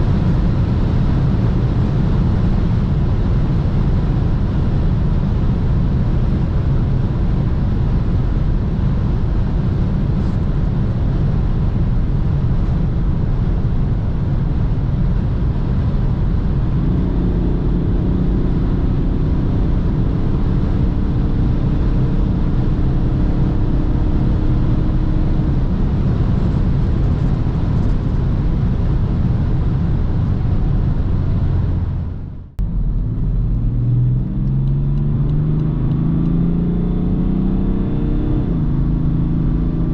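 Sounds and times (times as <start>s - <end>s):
diesel car engine: 0.0s - 39.9s
road and wind noise: 0.0s - 39.9s.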